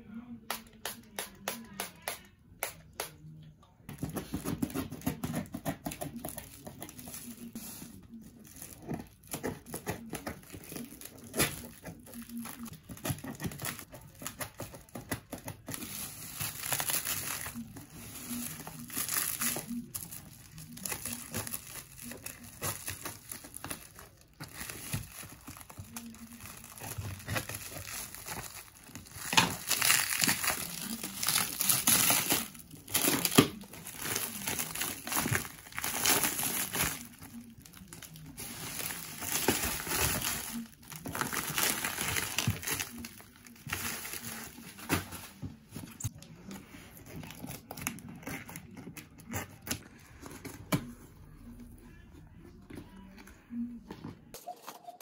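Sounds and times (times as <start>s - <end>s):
plastic wrap crinkling and tearing: 4.0s - 50.8s.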